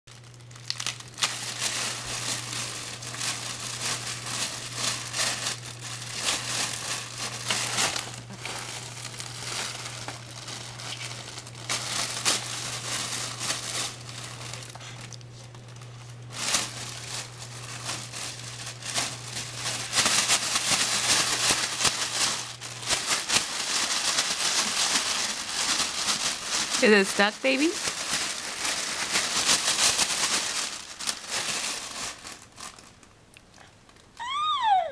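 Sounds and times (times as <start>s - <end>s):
plastic bag and paper crinkling: 0.1s - 34.8s.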